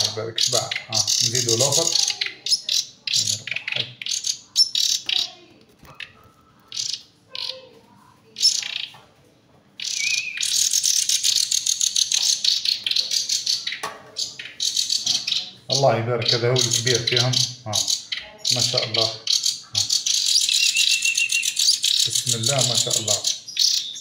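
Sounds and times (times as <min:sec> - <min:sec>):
bird chicks begging chirps: 0:00.0 - 0:07.8, 0:08.4 - 0:09.0, 0:09.8 - 0:24.0.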